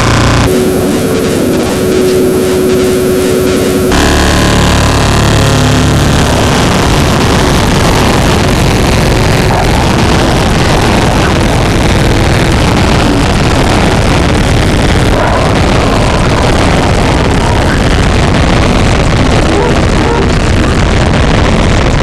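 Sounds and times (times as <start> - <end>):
harsh noise music: 0.0 - 22.0.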